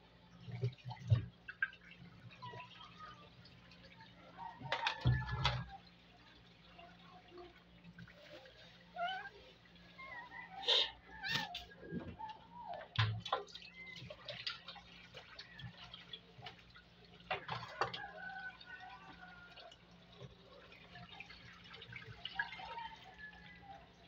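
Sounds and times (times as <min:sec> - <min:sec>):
water splashing in a metal sink: 0:00.3 - 0:24.0.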